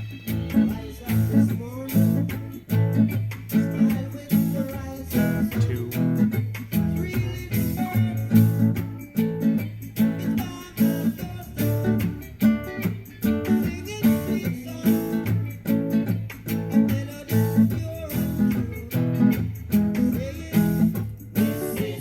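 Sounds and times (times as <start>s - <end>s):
guitar strumming damped chords: 0.0s - 22.0s.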